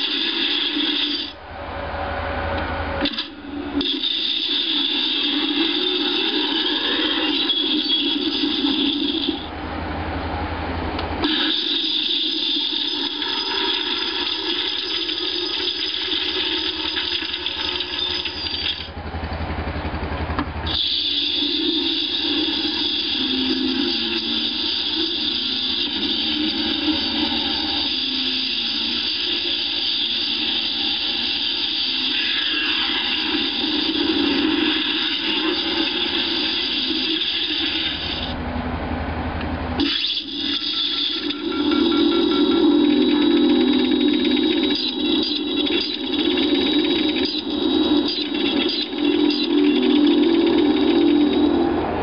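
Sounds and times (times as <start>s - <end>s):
mechanical drone with hiss: 0.0s - 39.0s, 39.6s - 52.0s.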